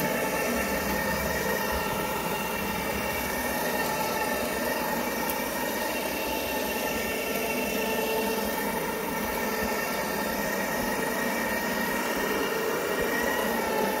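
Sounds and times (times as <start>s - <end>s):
carpet cleaning machine whine: 0.0s - 14.0s.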